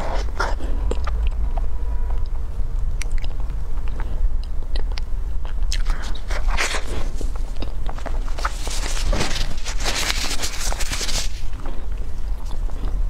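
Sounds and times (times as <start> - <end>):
biting and chewing cake: 0.0 - 13.0
steady low rumble: 0.0 - 13.0.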